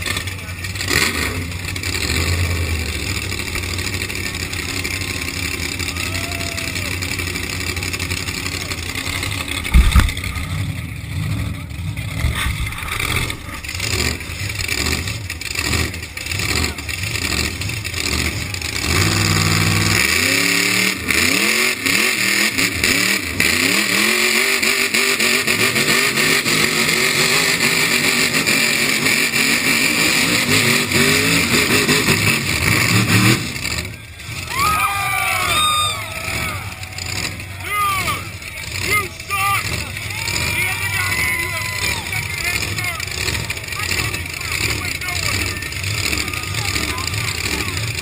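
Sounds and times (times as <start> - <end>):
tires spinning: 0.0 - 48.0
truck engine revving: 0.0 - 48.0.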